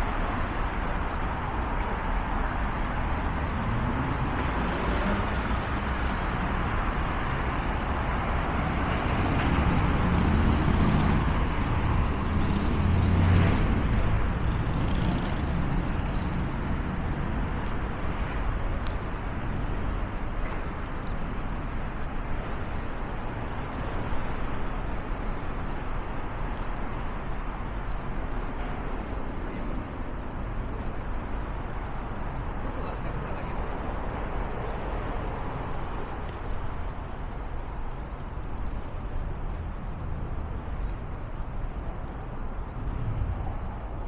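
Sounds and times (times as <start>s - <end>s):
hum of passing traffic: 0.0s - 44.0s.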